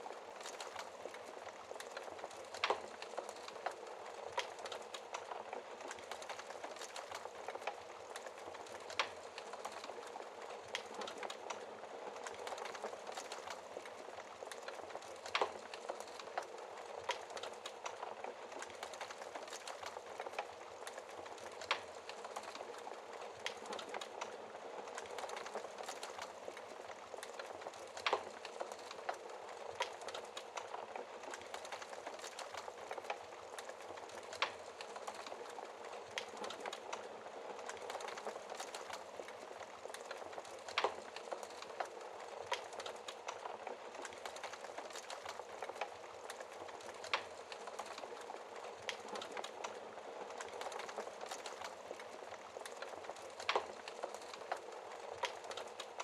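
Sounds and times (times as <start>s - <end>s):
fire pops and snaps: 0.0s - 56.0s
wood fire crackling: 0.0s - 56.0s.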